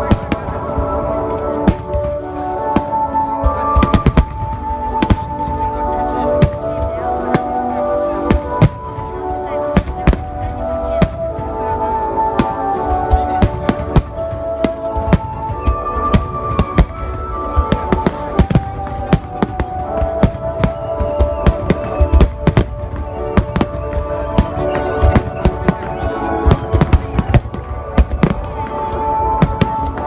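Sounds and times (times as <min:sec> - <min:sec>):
fireworks bangs: 0:00.0 - 0:30.0
music with long held notes: 0:00.0 - 0:30.0.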